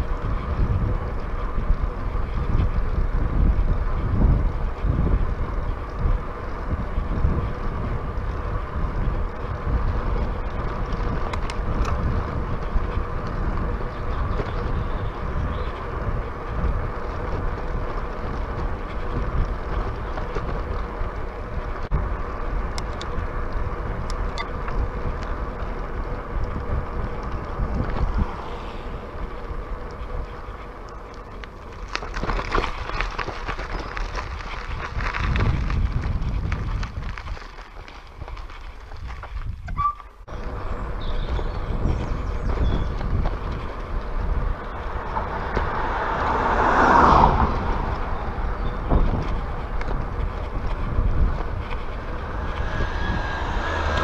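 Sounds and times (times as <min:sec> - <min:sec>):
bicycle tyres rolling on tarmac: 0:00.0 - 0:54.0
tyres crackling on gravel: 0:00.0 - 0:54.0
wind buffeting microphone: 0:00.0 - 0:54.0.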